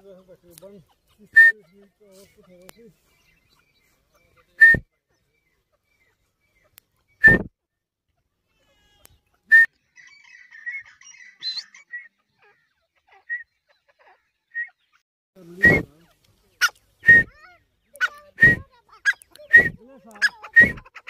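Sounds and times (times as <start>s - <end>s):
partridge calling: 0.0s - 7.5s, 9.0s - 21.0s
soft chattering bird notes: 0.0s - 7.5s, 8.2s - 21.0s.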